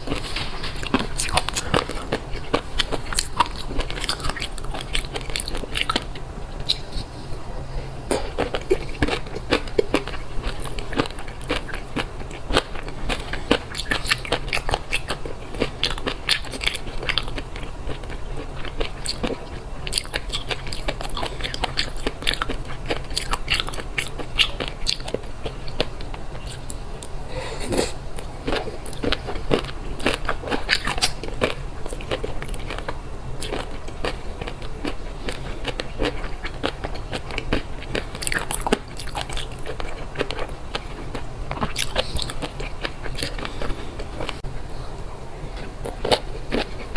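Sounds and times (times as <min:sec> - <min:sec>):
chewing crunchy fish roe: 0:00.0 - 0:46.9.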